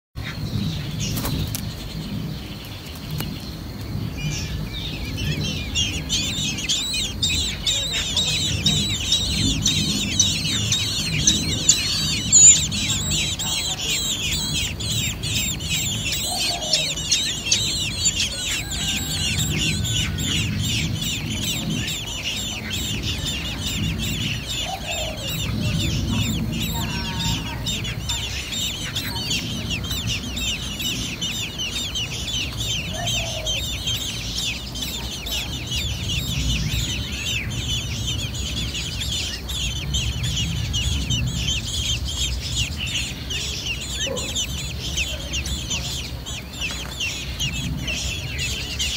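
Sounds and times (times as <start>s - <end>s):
low rumble: 0.2s - 48.9s
young birds chirping: 0.2s - 48.9s.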